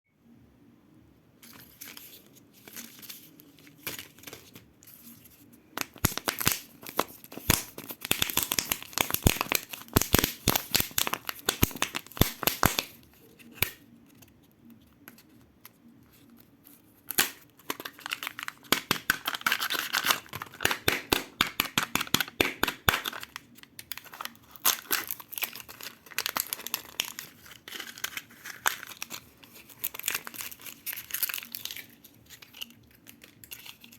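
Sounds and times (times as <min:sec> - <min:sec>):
plastic foil wrappers crinkling: 0:01.4 - 0:13.8, 0:17.0 - 0:33.9.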